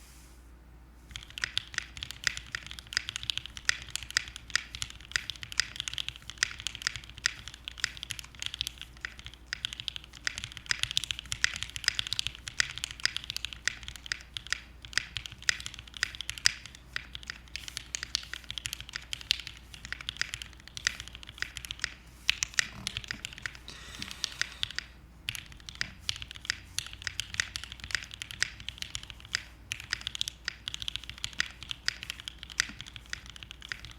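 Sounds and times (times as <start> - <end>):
mechanical keyboard typing: 1.1 - 33.9.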